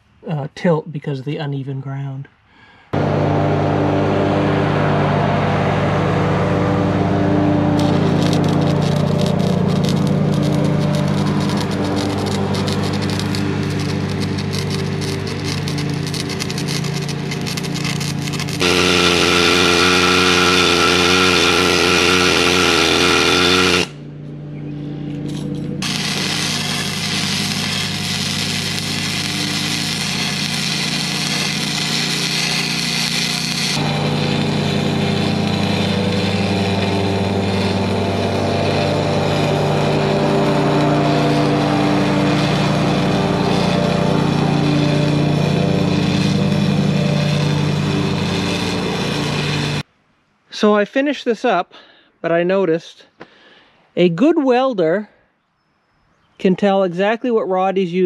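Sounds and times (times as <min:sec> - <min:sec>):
harsh machine noise: 0:02.9 - 0:49.9
small engine running: 0:02.9 - 0:49.9.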